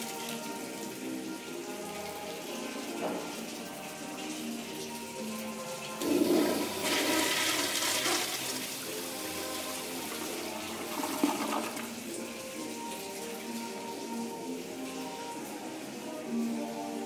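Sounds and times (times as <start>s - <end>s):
toilet flushing: 0.0s - 17.0s.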